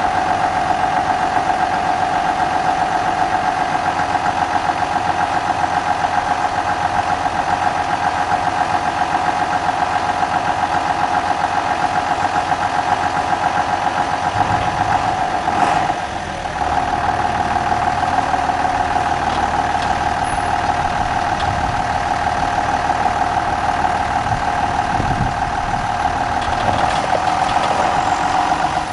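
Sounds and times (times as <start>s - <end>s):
tractor engine idling with whine: 0.0s - 28.9s.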